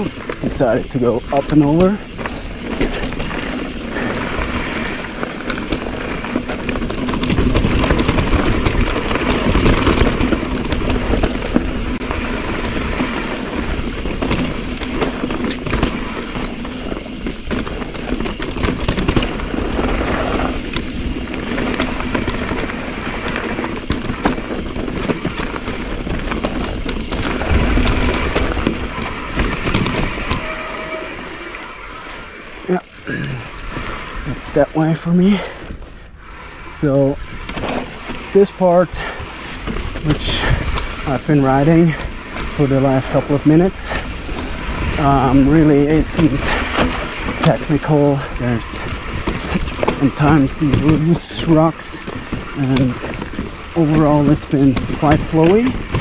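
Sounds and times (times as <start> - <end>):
bike knocks and rattles: 0.0 - 56.0
bike tyres on gravel: 0.0 - 56.0.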